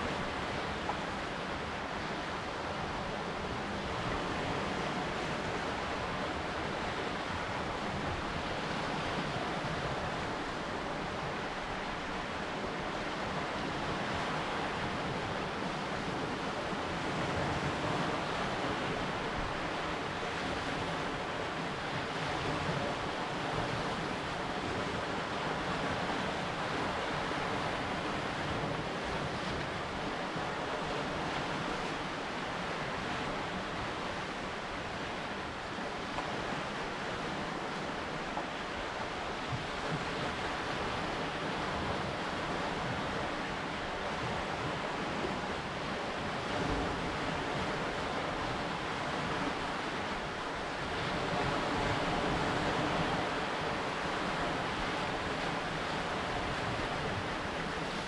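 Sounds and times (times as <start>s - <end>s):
waves washing onto rocky shore: 0.0s - 58.0s
wind: 0.0s - 58.0s.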